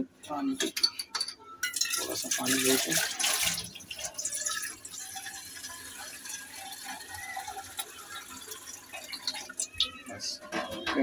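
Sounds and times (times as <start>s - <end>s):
tap water splashing into pot: 1.7s - 10.6s.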